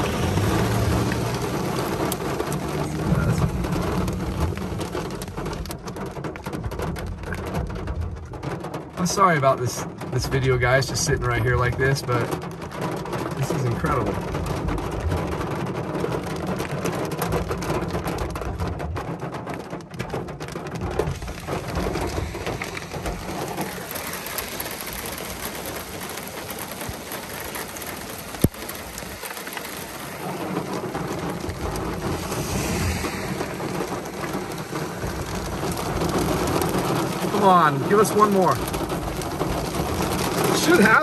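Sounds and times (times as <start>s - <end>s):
heavy rain on car roof: 0.0s - 41.0s
thunder rumble: 0.0s - 41.0s.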